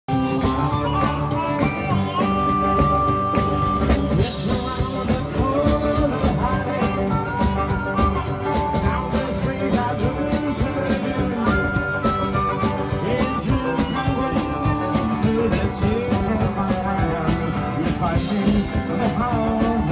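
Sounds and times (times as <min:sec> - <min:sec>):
drums keeping a steady beat: 0:00.0 - 0:19.9
electric guitar: 0:00.1 - 0:19.9
wailing harmonica: 0:00.1 - 0:19.9.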